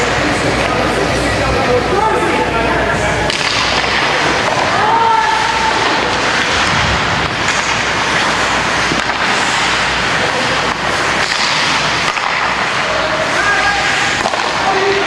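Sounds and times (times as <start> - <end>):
loud rushing rink noise: 0.0 - 15.0.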